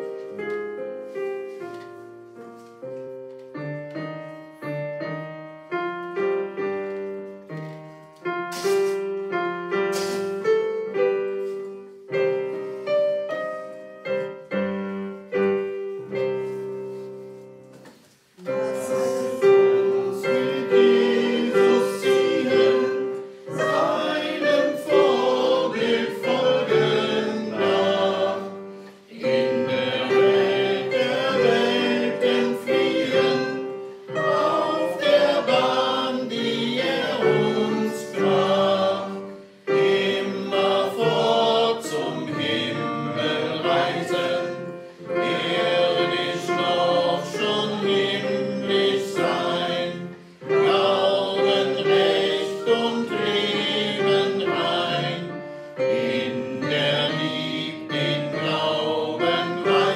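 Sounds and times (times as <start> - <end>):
hymn on digital piano with choir voices: 0.0 - 59.9.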